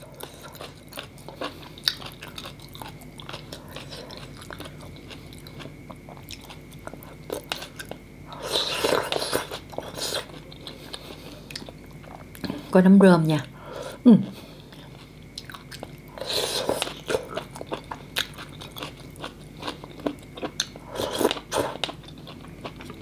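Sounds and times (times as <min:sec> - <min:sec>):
person chewing soup: 0:00.0 - 0:12.6, 0:14.3 - 0:23.0.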